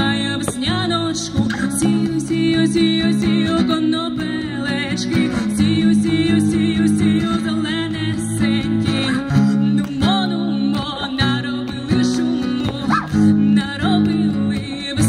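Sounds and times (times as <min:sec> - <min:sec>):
strummed acoustic guitar: 0:00.0 - 0:15.0
woman singing: 0:00.0 - 0:15.0.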